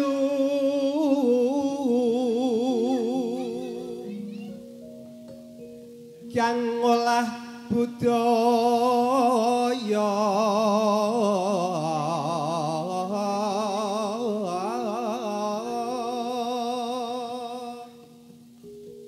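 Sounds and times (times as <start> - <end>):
man singing melismatic vocal line: 0.0 - 4.6, 6.2 - 18.2.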